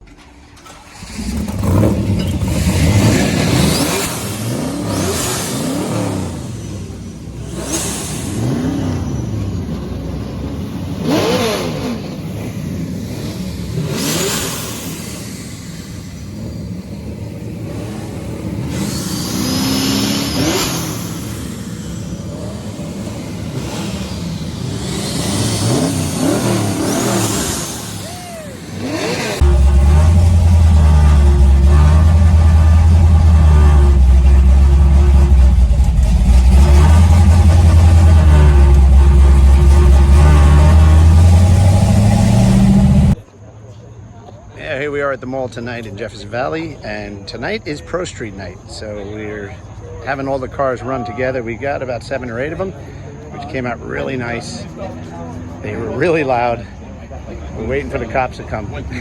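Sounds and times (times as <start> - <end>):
car engines revving: 0.0 - 44.9, 45.7 - 59.0.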